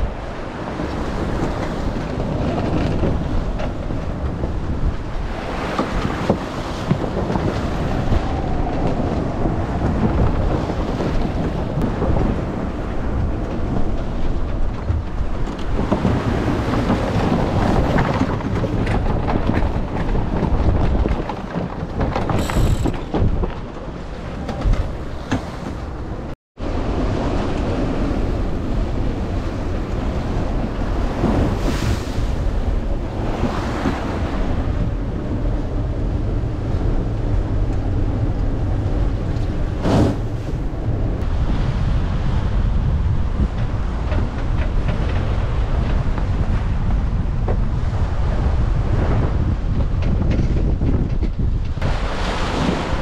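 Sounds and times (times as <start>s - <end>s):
waves rushing along hull: 0.0s - 53.0s
wind buffeting microphone: 0.0s - 53.0s.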